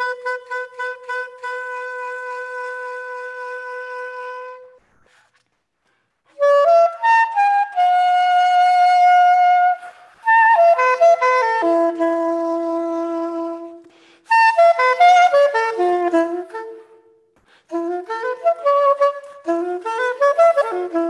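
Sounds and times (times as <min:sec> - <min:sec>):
soprano saxophone melody: 0:00.0 - 0:04.9, 0:06.3 - 0:21.0.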